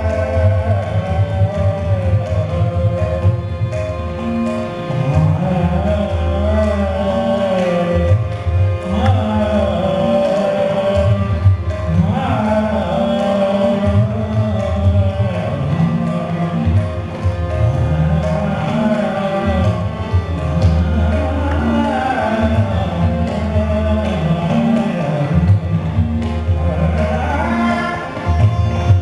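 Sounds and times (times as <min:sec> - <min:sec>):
man singing classical vocals: 0:00.0 - 0:03.8, 0:04.9 - 0:29.0
tabla: 0:00.0 - 0:29.0.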